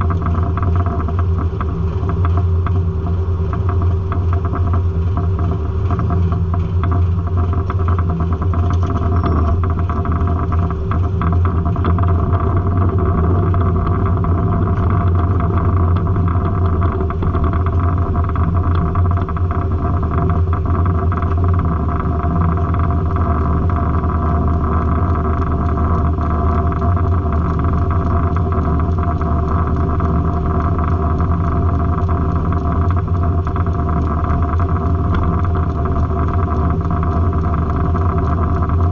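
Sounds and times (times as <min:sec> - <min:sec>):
sawmill engine drone: 0:00.0 - 0:38.9.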